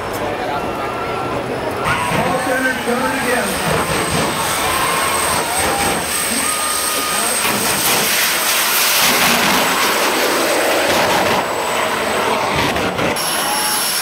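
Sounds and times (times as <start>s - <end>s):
jet engine roaring: 1.8s - 14.0s.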